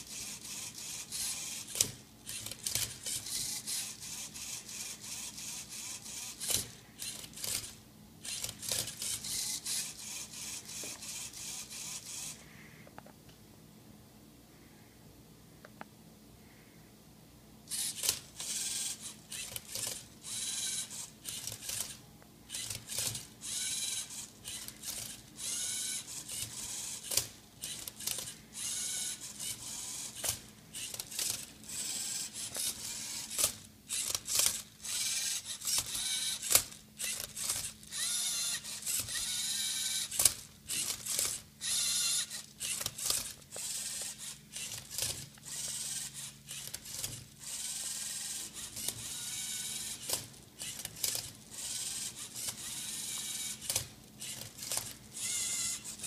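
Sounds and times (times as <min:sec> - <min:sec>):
robot motors whirring: 0:00.0 - 0:12.4, 0:17.7 - 0:56.0.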